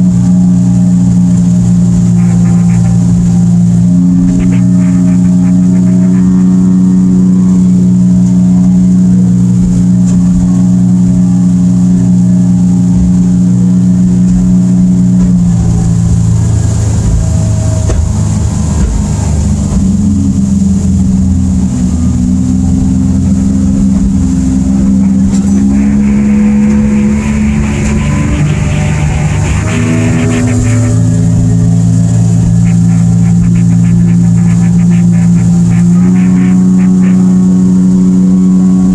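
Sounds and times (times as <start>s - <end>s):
outboard engine drone: 0.0s - 38.9s.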